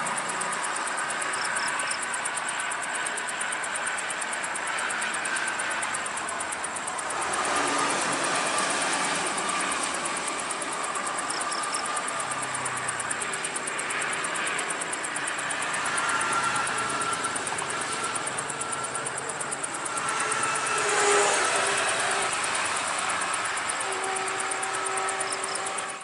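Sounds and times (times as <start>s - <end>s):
vehicles passing on highway: 0.0s - 26.0s.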